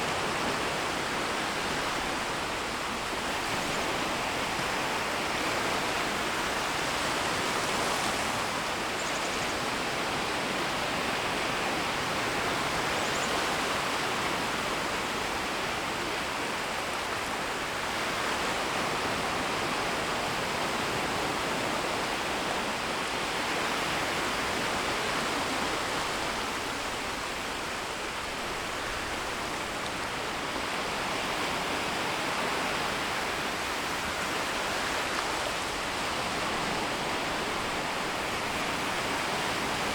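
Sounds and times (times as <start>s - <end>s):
small waves washing on shore: 0.0s - 39.9s.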